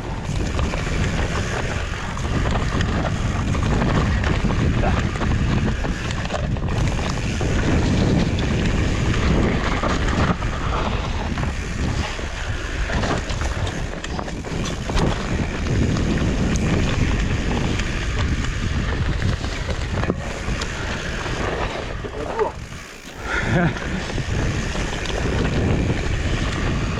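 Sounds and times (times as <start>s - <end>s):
bike rattling and knocking: 0.0s - 26.9s
wind rushing over microphone: 0.0s - 26.9s.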